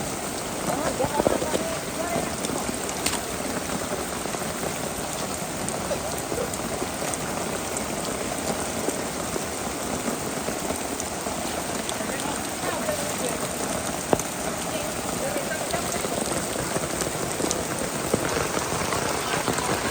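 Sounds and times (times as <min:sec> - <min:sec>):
heavy rain falling: 0:00.0 - 0:19.9.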